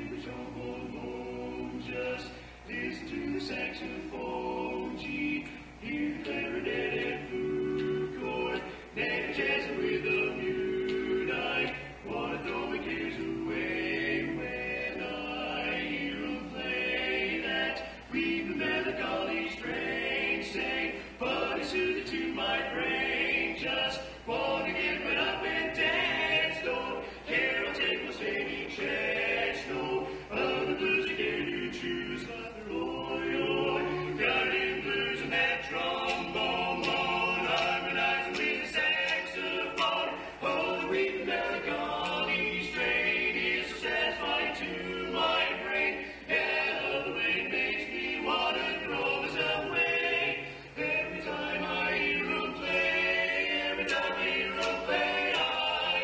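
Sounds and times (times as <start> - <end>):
male vocal quartet singing: 0.0 - 56.0.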